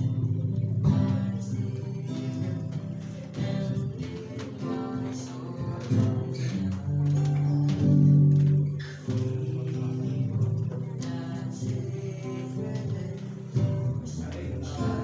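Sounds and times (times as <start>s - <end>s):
acoustic guitar strumming: 0.0s - 15.0s
voices singing a hymn: 0.0s - 15.0s.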